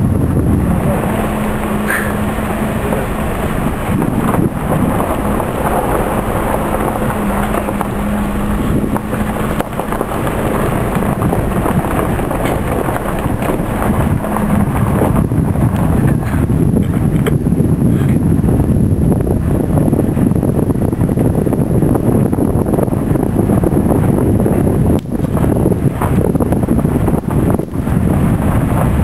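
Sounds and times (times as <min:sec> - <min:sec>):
car engine humming: 0:00.0 - 0:29.0
road and wind noise: 0:00.0 - 0:29.0.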